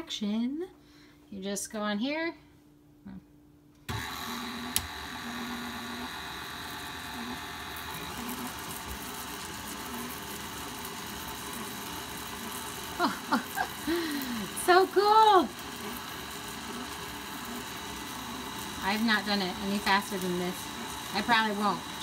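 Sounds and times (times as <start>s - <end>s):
stand mixer motor running: 3.9s - 22.0s.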